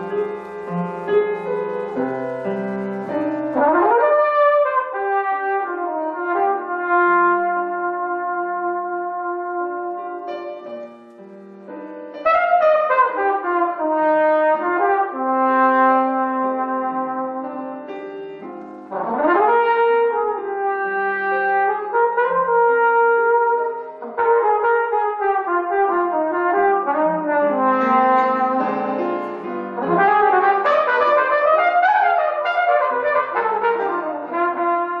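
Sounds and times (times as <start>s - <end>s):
trumpet playing held notes: 0.0s - 17.7s, 18.6s - 35.0s.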